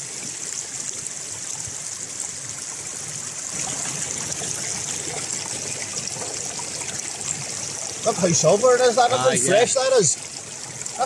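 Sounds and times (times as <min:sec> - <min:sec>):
river running over stones: 0:00.0 - 0:11.0.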